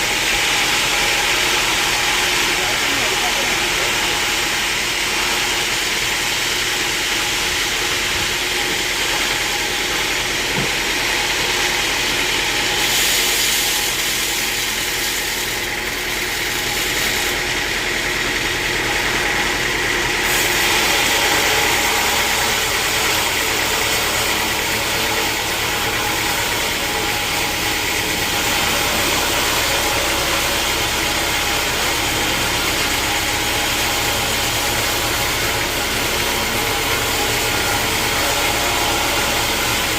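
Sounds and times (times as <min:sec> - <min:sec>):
sawmill motor drone: 0:00.0 - 0:39.9.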